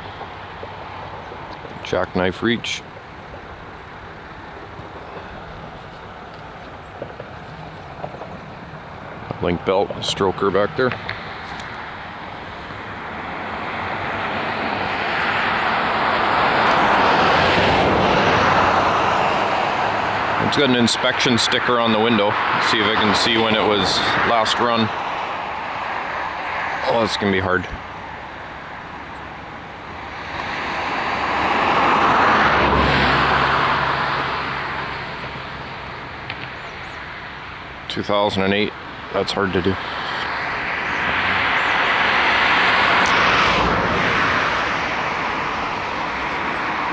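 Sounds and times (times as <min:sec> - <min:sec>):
passing vehicle rushing: 0:00.0 - 0:46.9.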